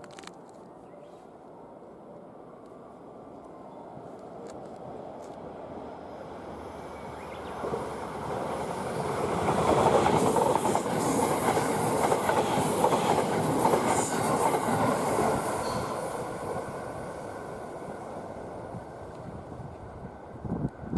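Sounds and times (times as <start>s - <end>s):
electric train passing: 1.1s - 20.9s.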